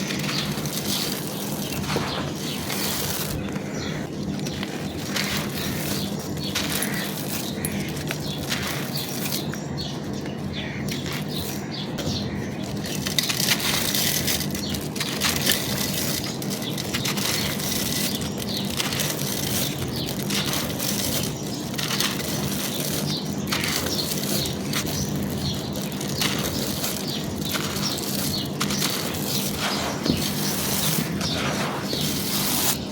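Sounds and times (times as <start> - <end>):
brittle material crunching by hand: 0.0 - 10.0, 10.8 - 32.9.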